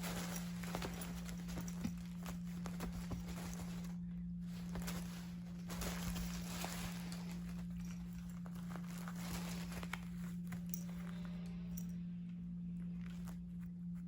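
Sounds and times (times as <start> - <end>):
rustling and crinkling: 0.0 - 14.0
steady low hum: 0.0 - 14.0.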